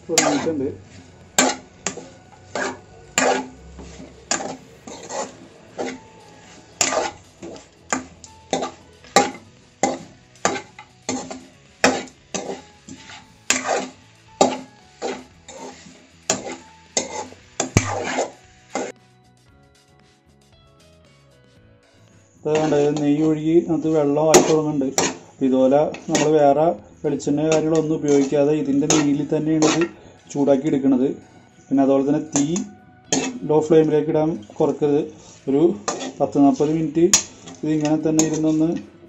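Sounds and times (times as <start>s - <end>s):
metal spoon scraping pot: 0.0s - 19.0s, 22.5s - 31.1s, 32.2s - 39.0s.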